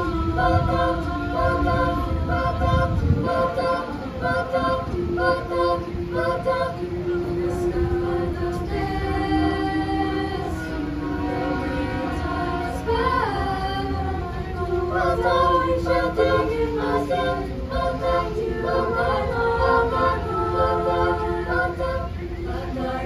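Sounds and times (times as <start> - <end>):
steady low rumble: 0.0 - 23.0
treble choir singing a cappella: 0.0 - 23.0.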